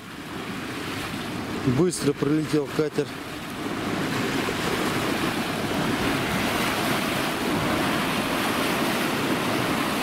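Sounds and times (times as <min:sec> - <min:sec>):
churned river water rushing: 0:00.0 - 0:10.0
wind on microphone: 0:00.0 - 0:10.0.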